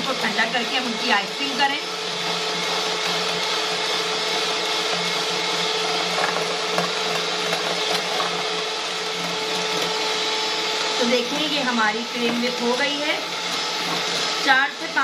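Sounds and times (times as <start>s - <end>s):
electric hand mixer whipping cream: 0.0s - 15.0s.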